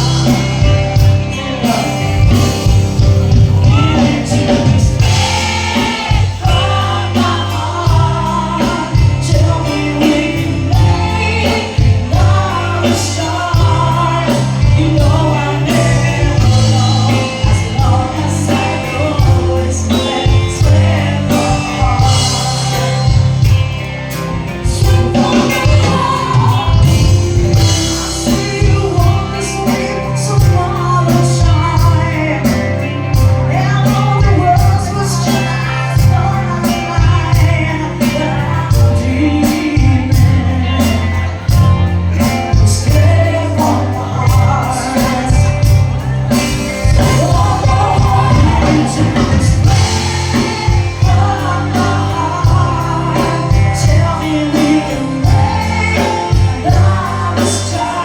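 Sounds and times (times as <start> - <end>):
held bass notes: 0.0 - 58.0
person singing: 0.0 - 58.0
regular drum beat: 0.0 - 58.0.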